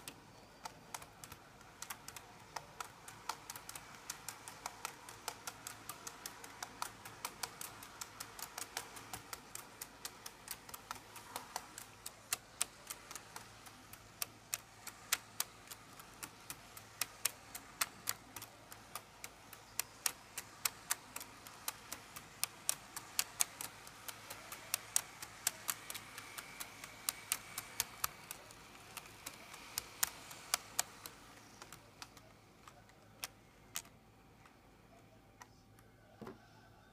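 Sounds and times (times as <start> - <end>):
model train wheels clicking: 0.0 - 35.8
faint motor hum: 0.0 - 36.9.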